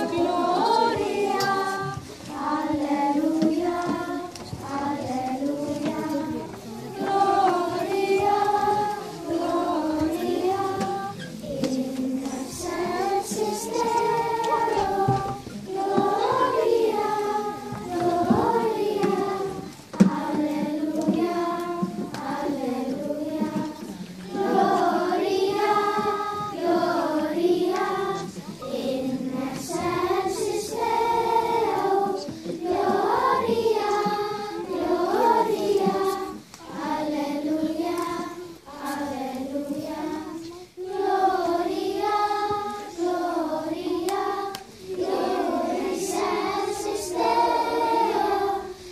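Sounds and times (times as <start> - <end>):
children's choir singing: 0.0 - 48.9.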